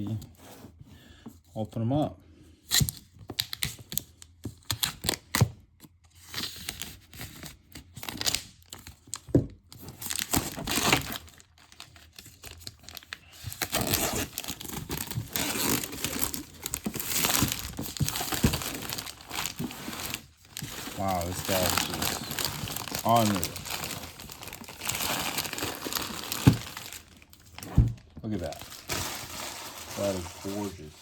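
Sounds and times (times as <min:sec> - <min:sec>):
wrapping tearing and crinkling: 0:06.2 - 0:31.0.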